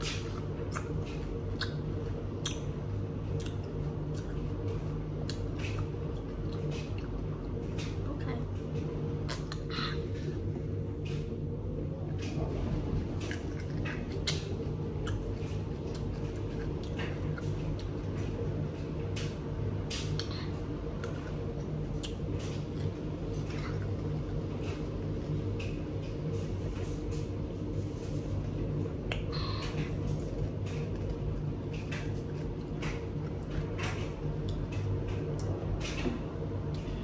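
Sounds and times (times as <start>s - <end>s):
crunchy chewing: 0.0s - 8.0s, 9.2s - 36.0s
washing machine humming: 0.0s - 37.0s.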